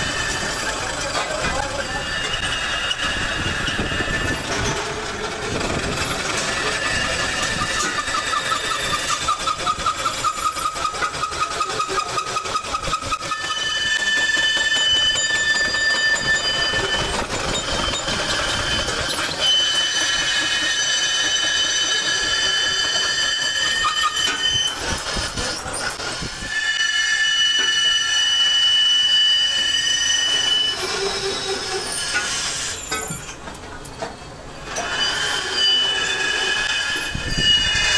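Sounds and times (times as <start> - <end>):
lathe tool squealing on metal: 0.0 - 37.9.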